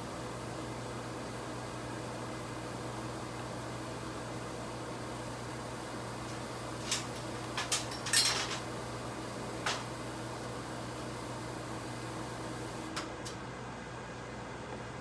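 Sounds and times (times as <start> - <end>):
workshop machines humming: 0.0 - 15.0.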